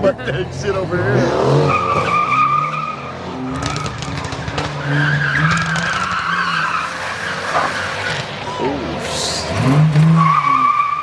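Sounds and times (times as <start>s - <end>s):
car engine running hard: 0.0s - 10.8s
tires squealing: 0.4s - 11.0s.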